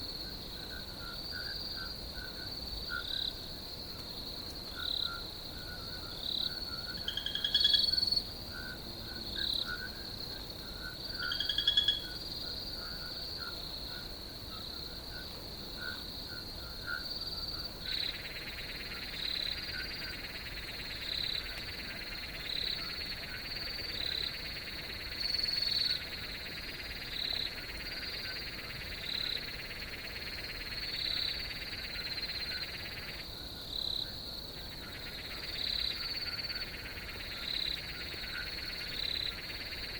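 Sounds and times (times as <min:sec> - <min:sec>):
frogs calling: 0:04.7 - 0:39.9.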